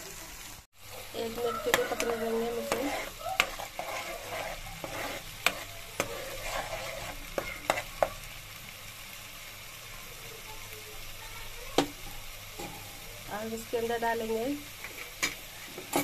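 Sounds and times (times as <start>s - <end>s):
paste sizzling in oil: 0.0s - 16.0s.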